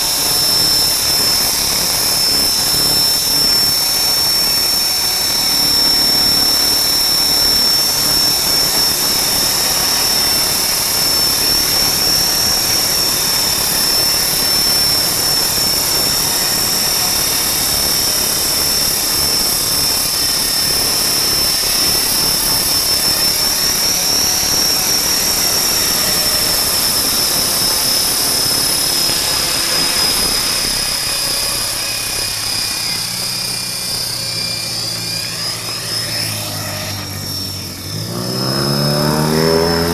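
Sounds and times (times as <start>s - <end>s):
rc helicopter motor whine: 0.0s - 39.9s
whir of rotors: 0.0s - 39.9s.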